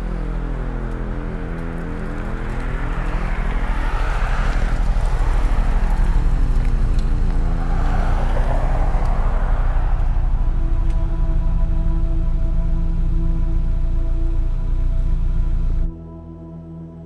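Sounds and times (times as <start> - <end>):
car engine at low speed: 0.0 - 15.9
tyres humming on pavement: 0.0 - 15.9.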